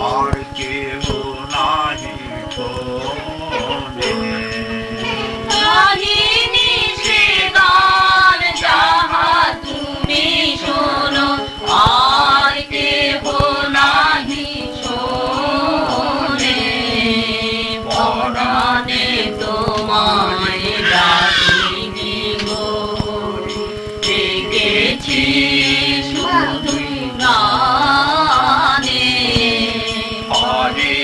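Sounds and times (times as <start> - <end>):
steady held drone: 0.0 - 31.0
voices singing: 0.0 - 31.0.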